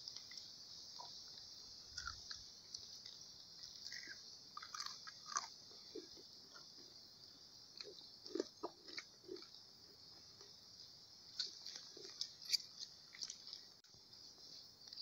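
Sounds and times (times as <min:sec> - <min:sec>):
steady high hiss: 0:00.0 - 0:15.0
chewing crunchy fried fish: 0:00.1 - 0:06.9, 0:07.7 - 0:10.6, 0:11.3 - 0:14.0.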